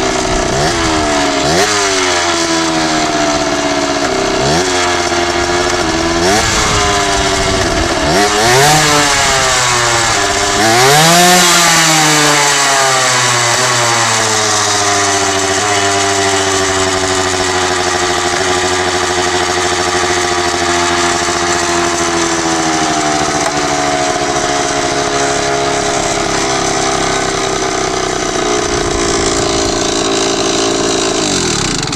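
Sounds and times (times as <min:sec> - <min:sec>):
small two-stroke engine running: 0:00.0 - 0:31.9.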